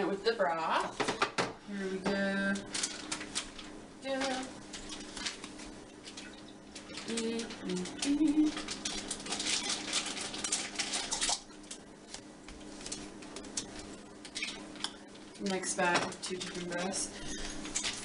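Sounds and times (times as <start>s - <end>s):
plastic bag crinkling: 2.6s - 18.0s.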